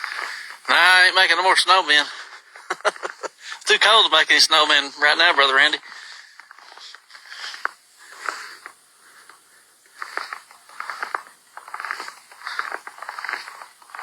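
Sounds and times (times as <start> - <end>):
footsteps crunching through snow: 0.0 - 14.0.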